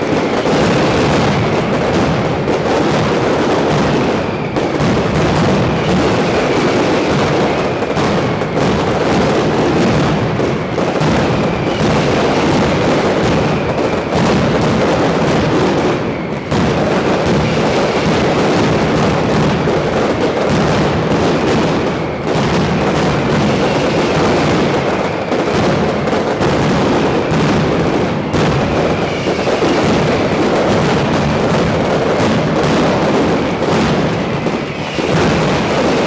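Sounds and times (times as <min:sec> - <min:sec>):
firecrackers banging rapidly: 0:00.0 - 0:36.0.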